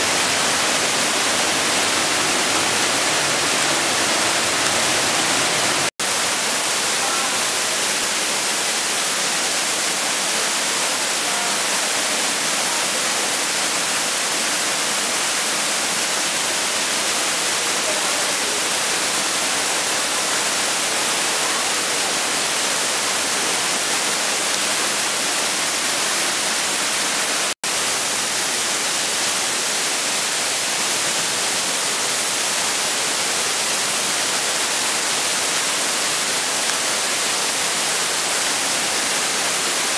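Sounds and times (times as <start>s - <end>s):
rushing torrent and waterfalls: 0.0s - 39.9s.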